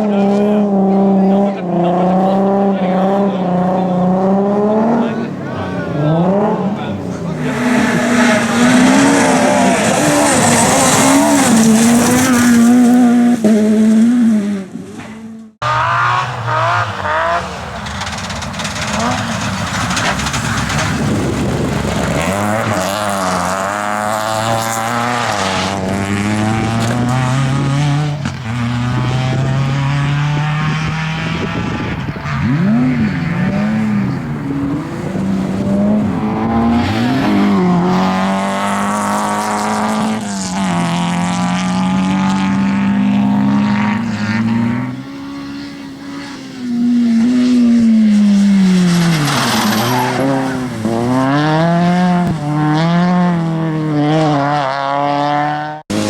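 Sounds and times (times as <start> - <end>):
rally car engines revving high: 0.0 - 56.0
car passing close by: 1.3 - 56.0.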